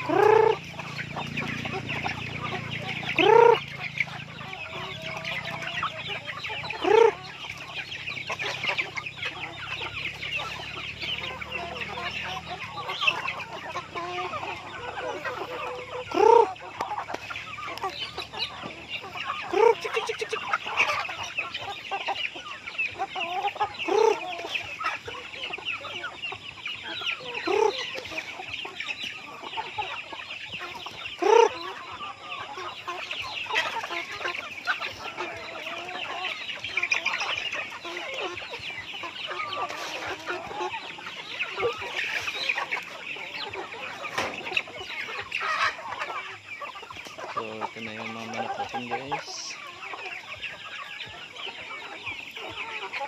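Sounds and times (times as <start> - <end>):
chatter of high calls: 0.0 - 53.0
chickens clucking: 0.0 - 53.0.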